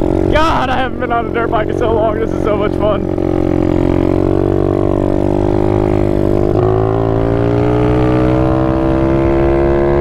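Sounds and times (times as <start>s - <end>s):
motorbike engine accelerating: 0.0s - 10.0s.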